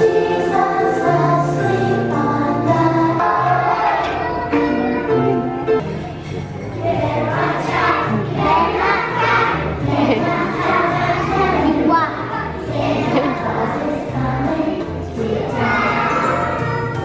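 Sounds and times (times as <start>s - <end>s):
children's choir singing: 0.0s - 5.8s, 6.6s - 17.0s
instrumental accompaniment: 0.0s - 17.0s.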